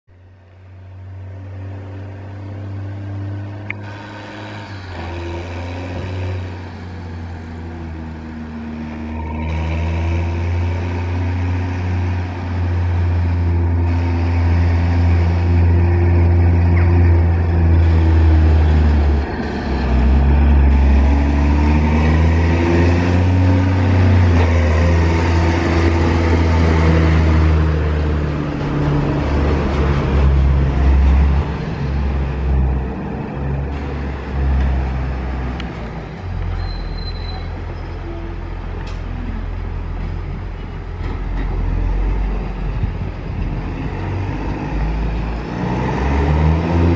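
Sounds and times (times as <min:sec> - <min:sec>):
tractor diesel engine passing: 0:00.4 - 0:46.9.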